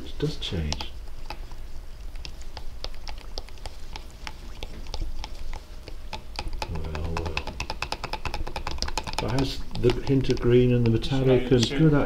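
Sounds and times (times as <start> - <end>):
stirrer tapping a cup: 0.0 - 1.6, 2.2 - 11.7
low steady hum: 0.0 - 7.8, 8.4 - 12.0.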